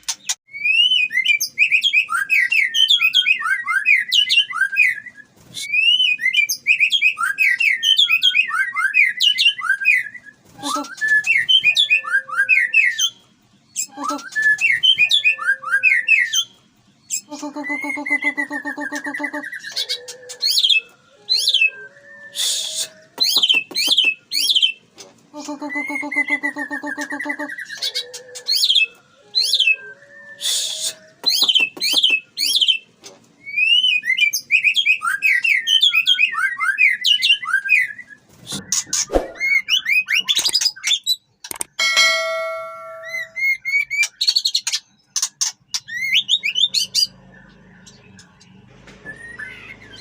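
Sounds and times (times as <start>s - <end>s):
birds singing whistled phrases: 0.1s - 50.0s.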